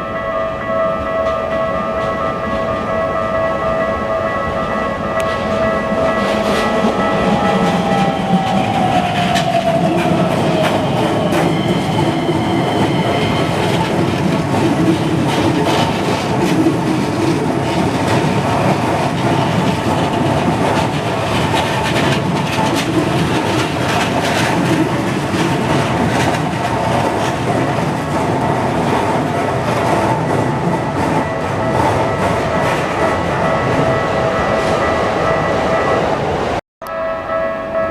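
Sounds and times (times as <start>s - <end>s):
crossing warning bell ringing: 0.0s - 37.9s
train wheels rumbling on rail: 0.5s - 36.6s.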